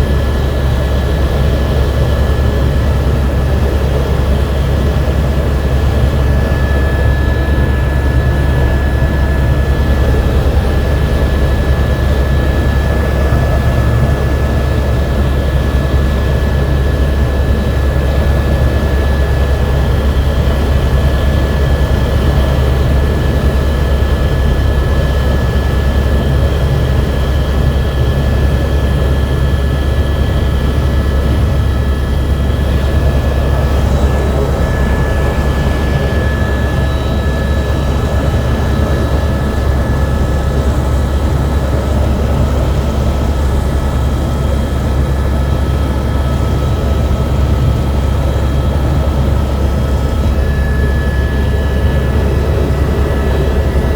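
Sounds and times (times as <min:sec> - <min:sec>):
helicopter engine and rotor drone: 0:00.0 - 0:53.9
thin steady whine: 0:00.0 - 0:53.9.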